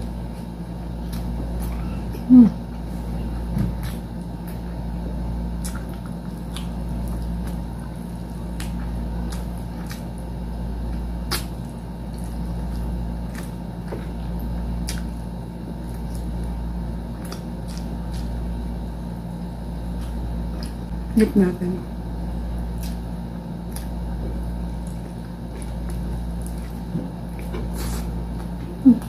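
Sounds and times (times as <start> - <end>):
steady low hum: 0.0 - 29.0
wet chewing and lip-smacking: 0.3 - 2.9, 3.6 - 21.0, 22.4 - 29.0.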